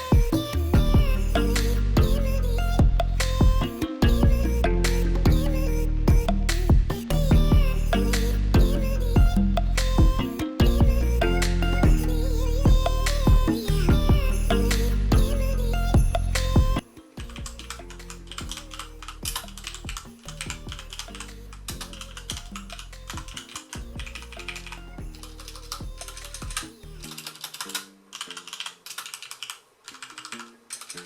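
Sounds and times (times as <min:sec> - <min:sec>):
background music: 0:00.0 - 0:31.0.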